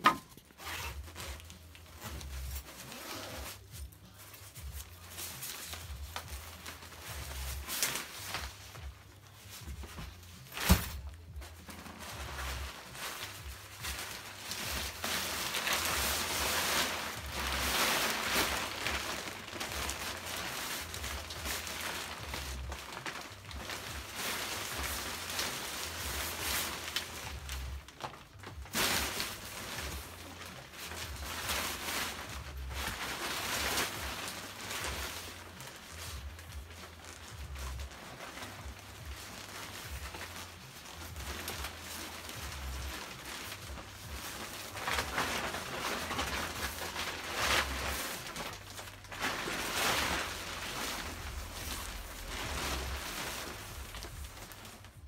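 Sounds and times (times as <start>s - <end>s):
nylon fabric rustling: 0.0s - 55.0s.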